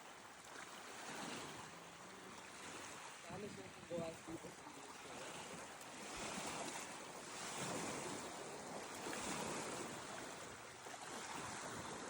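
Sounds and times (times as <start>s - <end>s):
small waves washing on shore: 0.0s - 12.0s
wind on microphone: 1.0s - 12.0s.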